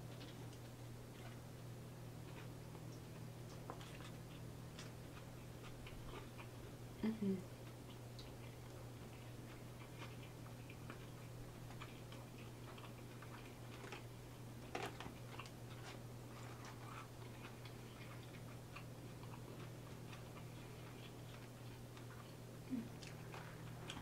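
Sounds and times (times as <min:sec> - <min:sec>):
close-miked chewing: 0:00.0 - 0:24.0
steady low hum: 0:00.0 - 0:24.0.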